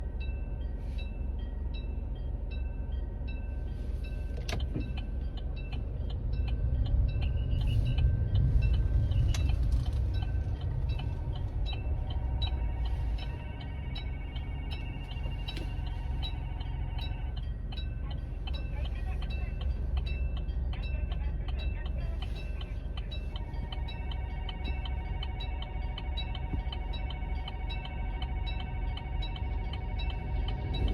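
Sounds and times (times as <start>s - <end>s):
freight train rumbling past: 4.8s - 30.9s.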